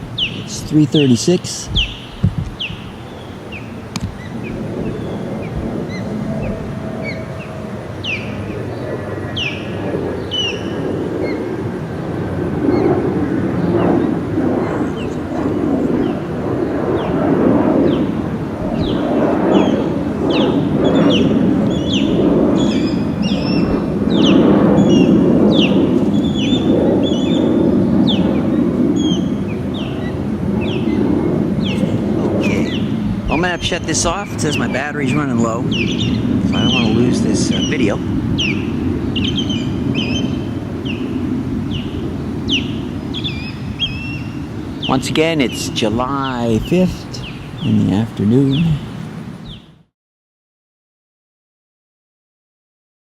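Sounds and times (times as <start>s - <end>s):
birds chirping: 0.0s - 49.9s
jet airliner rumble: 0.0s - 49.9s.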